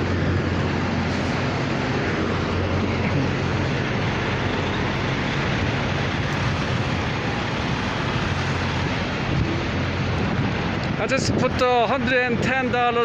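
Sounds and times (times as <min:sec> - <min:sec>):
truck engines idling: 0:00.0 - 0:13.0.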